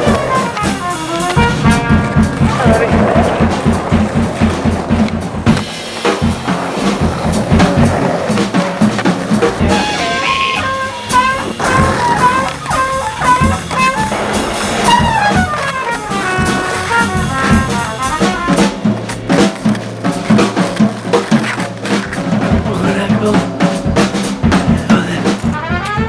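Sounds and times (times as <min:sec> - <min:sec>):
horn playing jazz melody: 0:00.0 - 0:22.5, 0:25.4 - 0:26.0
drum kit: 0:00.0 - 0:26.0.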